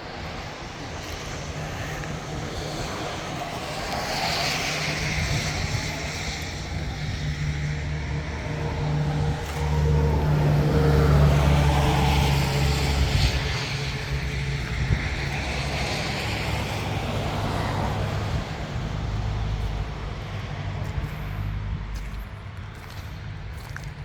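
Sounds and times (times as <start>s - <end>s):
diesel engine running: 1.1s - 24.0s.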